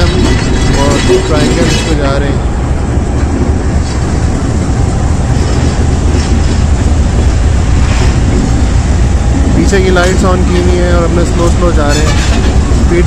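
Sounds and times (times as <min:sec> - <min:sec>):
locomotive engine low rumble: 0:00.0 - 0:13.0.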